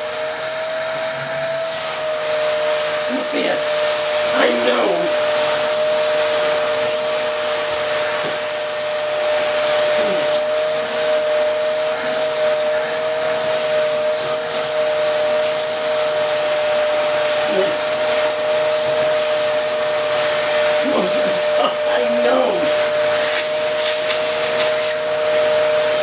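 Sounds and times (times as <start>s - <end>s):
vacuum cleaner whine: 0.0s - 26.0s.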